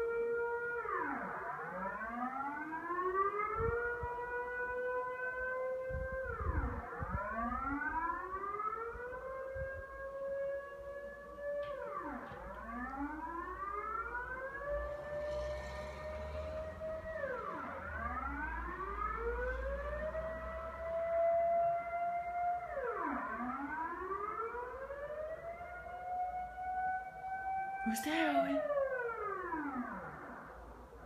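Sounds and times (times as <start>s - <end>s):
warning siren wailing: 0.0s - 31.0s.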